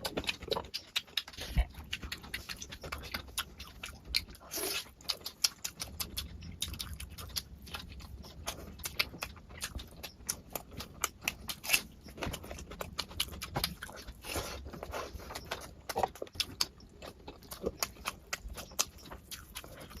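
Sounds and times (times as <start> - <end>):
person chewing and lip smacking: 0.0 - 20.0.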